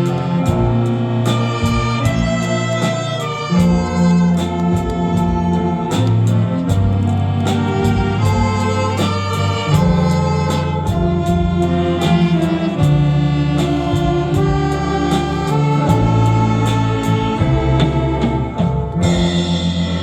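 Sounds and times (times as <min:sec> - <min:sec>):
bass line: 0:00.0 - 0:20.0
drum beat: 0:00.0 - 0:20.0
saxophone big band playing: 0:00.0 - 0:20.0.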